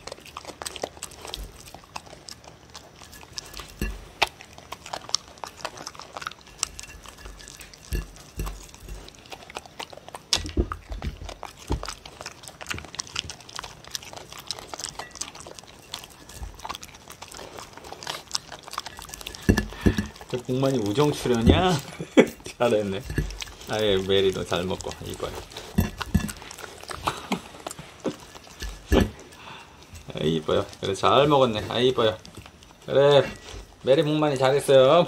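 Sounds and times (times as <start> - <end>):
teeth clicking against plate: 0.0 - 33.8
dog licking and chewing: 0.0 - 35.0.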